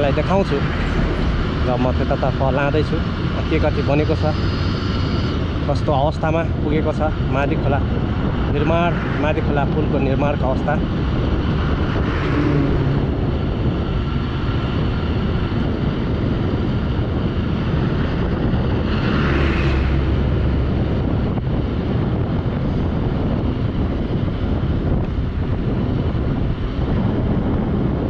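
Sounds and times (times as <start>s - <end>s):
truck passing: 0.0s - 27.2s
bus passing: 0.0s - 28.0s
road traffic: 0.0s - 28.0s
wind rush on microphone: 0.0s - 28.0s.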